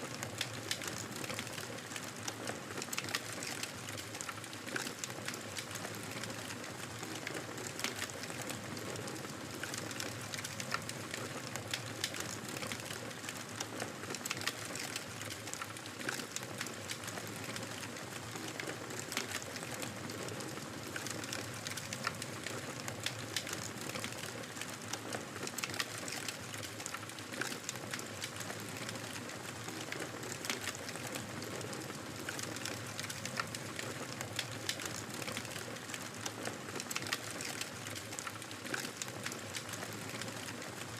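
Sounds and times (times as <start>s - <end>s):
wood fire popping and snapping: 0.1s - 40.9s.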